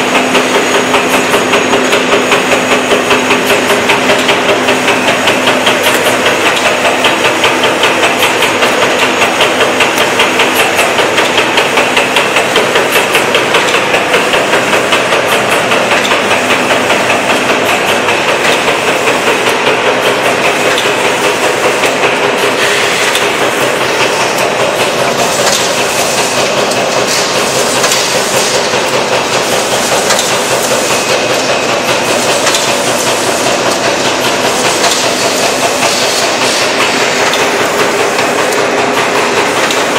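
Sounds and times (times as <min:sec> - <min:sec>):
packaging machine clattering: 0:00.0 - 0:39.9.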